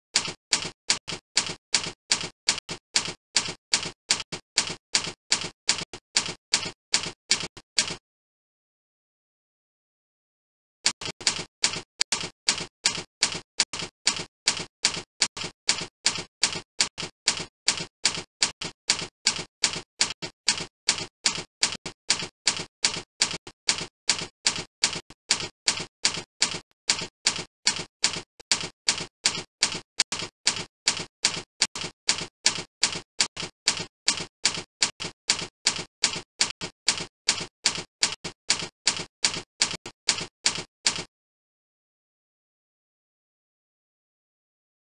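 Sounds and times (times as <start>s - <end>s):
typing clicks: 0.2s - 8.0s, 10.9s - 41.1s.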